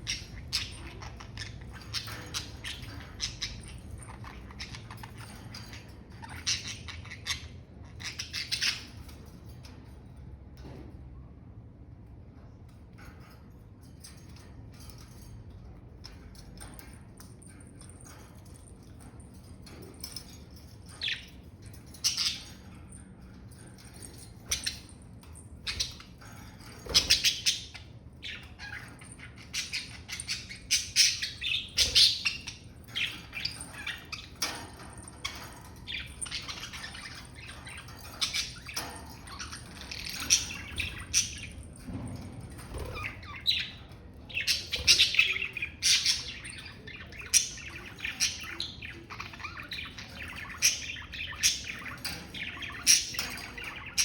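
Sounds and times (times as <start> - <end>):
budgerigars chirping and chattering: 0.0 - 9.8, 15.8 - 54.0.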